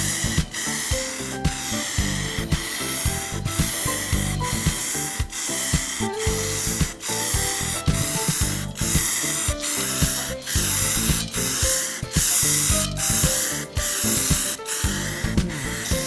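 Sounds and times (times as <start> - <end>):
aerosol spray can hissing: 0.0 - 16.0
background music: 0.0 - 16.0.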